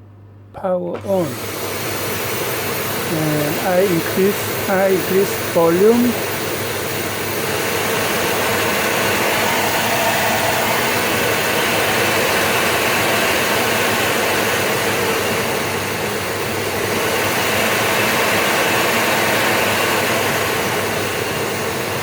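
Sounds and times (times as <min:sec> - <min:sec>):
vacuum cleaner running: 0:00.6 - 0:22.0.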